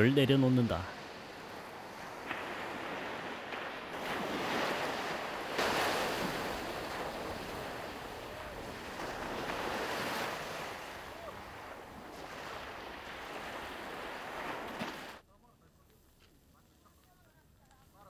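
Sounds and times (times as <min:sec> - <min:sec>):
small waves breaking on beach: 0:00.0 - 0:15.2.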